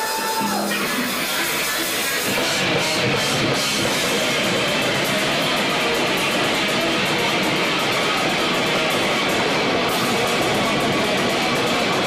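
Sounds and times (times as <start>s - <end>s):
drums and cymbals: 0.0s - 12.0s
electric guitar: 0.0s - 12.0s.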